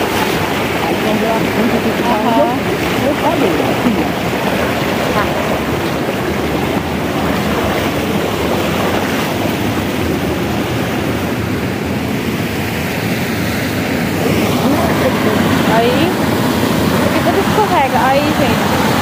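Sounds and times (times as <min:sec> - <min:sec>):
waterfall rushing over rocks: 0:00.0 - 0:19.0.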